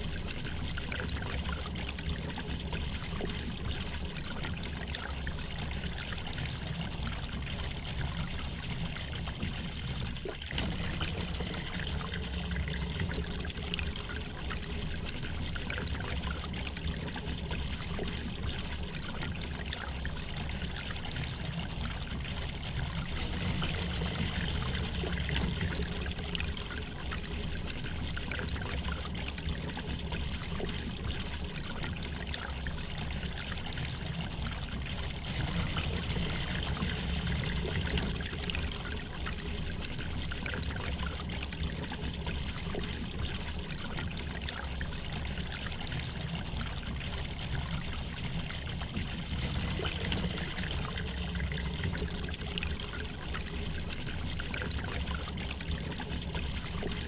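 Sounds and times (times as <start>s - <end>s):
water trickling and bubbling: 0.0s - 57.0s.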